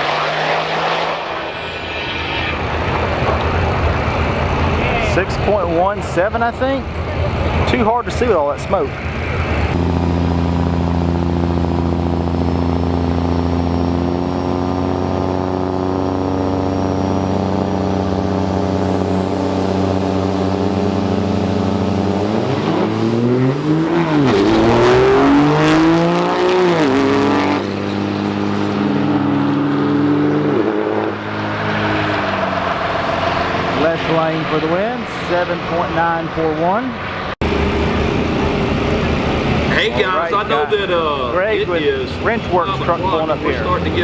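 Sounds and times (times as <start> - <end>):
faint high turbo whine: 0.0 - 25.6, 31.1 - 44.0
diesel truck engines revving: 0.0 - 44.0.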